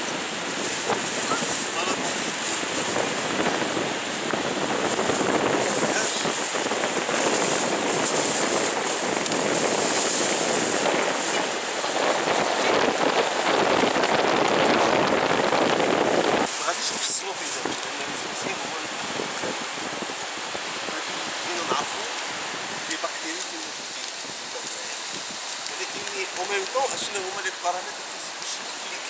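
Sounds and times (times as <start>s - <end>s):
wind buffeting microphone: 0.0s - 28.0s
surf breaking: 0.0s - 29.0s.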